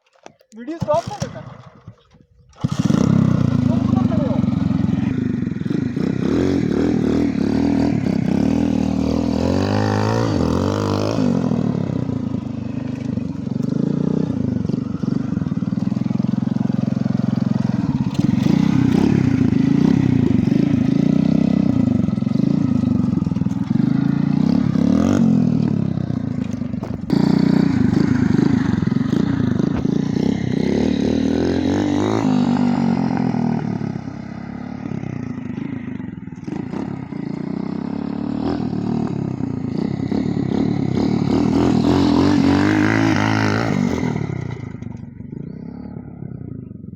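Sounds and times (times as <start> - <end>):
motorcycle engine revving: 0.2 - 46.9.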